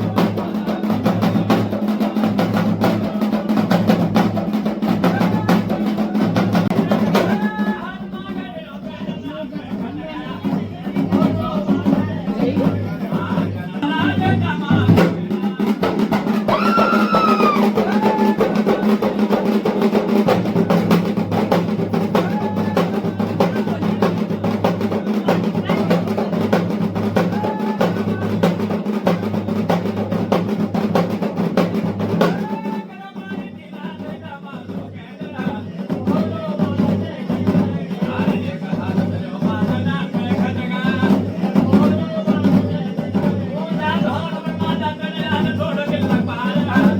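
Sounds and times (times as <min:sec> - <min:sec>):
voices: 0:00.0 - 0:30.0, 0:32.1 - 0:46.9
fast drumming: 0:00.0 - 0:46.9.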